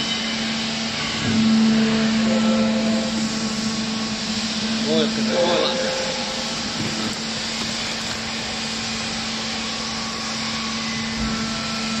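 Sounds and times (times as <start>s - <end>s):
electric motor and pump running: 0.0s - 12.0s.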